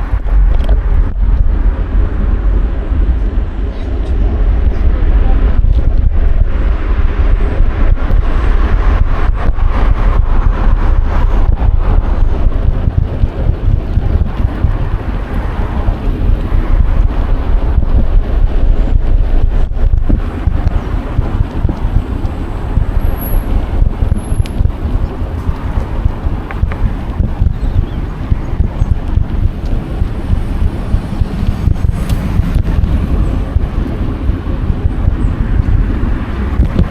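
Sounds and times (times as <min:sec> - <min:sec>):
road traffic: 0:00.0 - 0:36.9
wind buffeting microphone: 0:00.0 - 0:36.9.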